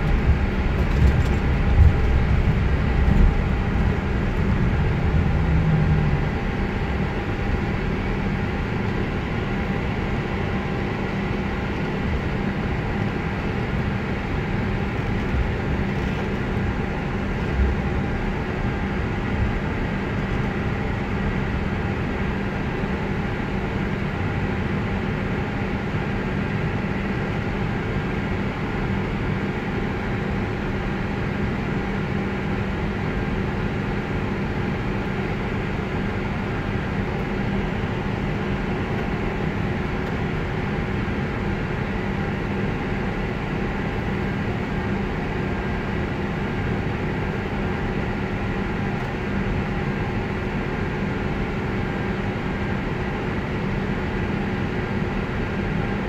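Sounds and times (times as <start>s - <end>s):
aircraft cockpit engine hum: 0.0s - 56.0s.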